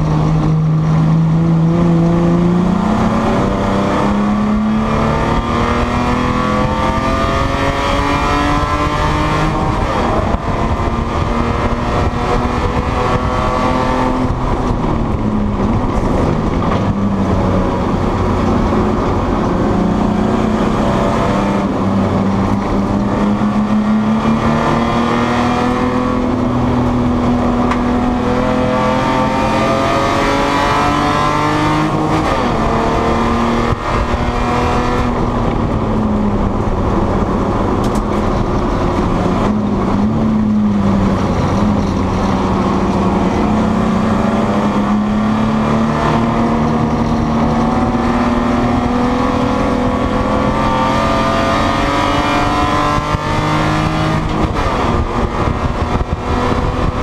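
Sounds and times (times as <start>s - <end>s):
race car engine revving: 0.0s - 57.0s
road and wind noise: 0.0s - 57.0s.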